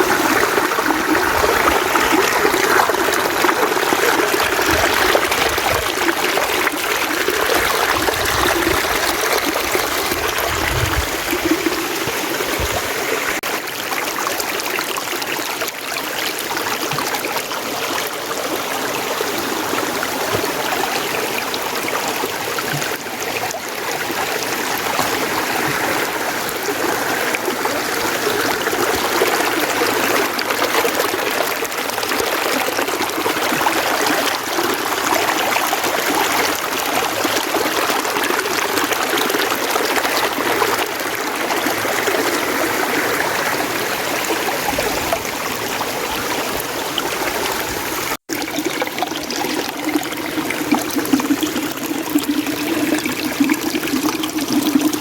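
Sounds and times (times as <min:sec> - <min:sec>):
mountain stream running: 0:00.0 - 0:55.0.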